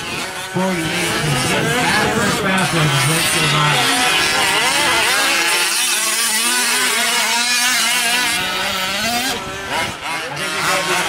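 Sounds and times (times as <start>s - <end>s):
two-stroke model truck engines racing: 0.0s - 11.0s.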